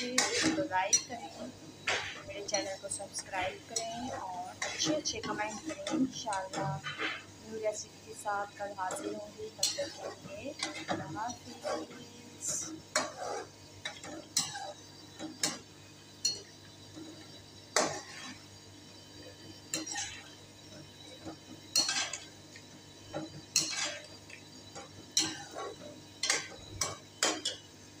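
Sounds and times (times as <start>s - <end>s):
metal spoon scraping a pan: 0.0s - 7.4s, 8.4s - 18.5s, 19.2s - 22.4s, 23.0s - 27.6s.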